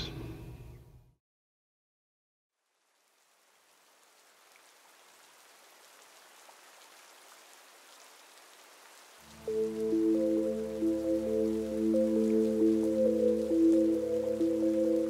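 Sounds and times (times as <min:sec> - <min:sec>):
faint hiss with light crackles: 0:02.6 - 0:15.0.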